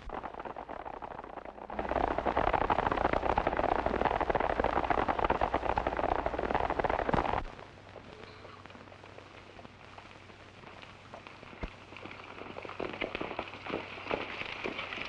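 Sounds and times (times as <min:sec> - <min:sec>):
horses galloping: 0:00.0 - 0:07.5, 0:09.4 - 0:15.0.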